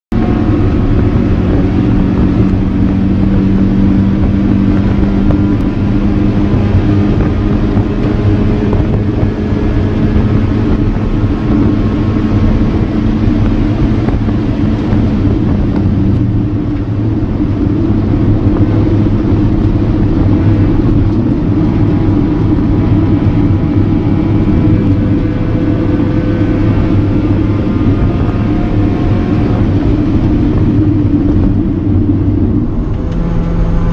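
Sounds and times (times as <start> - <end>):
car engine running hard: 0.1 - 33.9
wind and road noise: 0.1 - 33.9.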